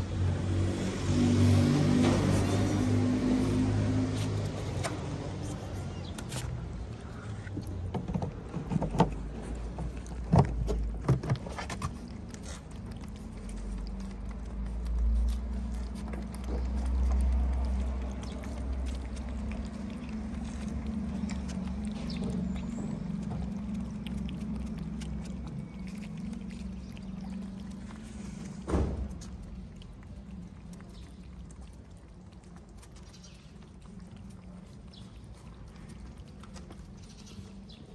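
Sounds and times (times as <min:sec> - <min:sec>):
cats chewing food: 0:00.0 - 0:37.9.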